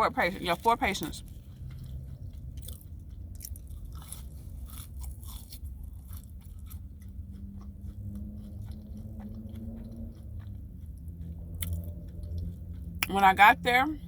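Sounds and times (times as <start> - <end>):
steady low hum: 0.0 - 14.0
person chewing crunchy food: 0.3 - 13.3.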